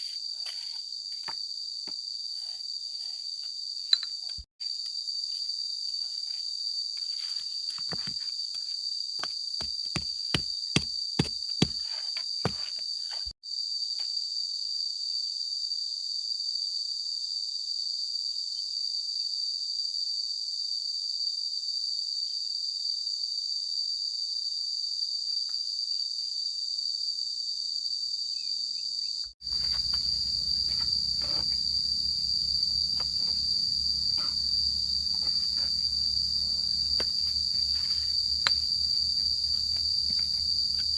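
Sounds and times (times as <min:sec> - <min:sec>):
high insect chorus: 0:00.0 - 0:40.9.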